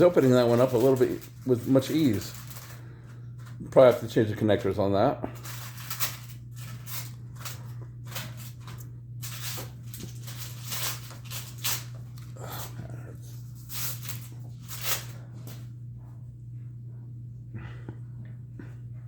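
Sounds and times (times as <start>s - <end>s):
wrapping paper tearing and crinkling: 0.0s - 15.6s
steady low hum: 0.0s - 19.0s.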